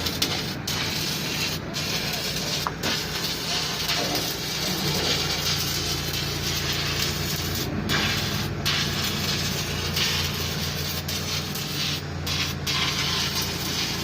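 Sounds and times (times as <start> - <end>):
welding arc crackling: 0.0 - 14.0.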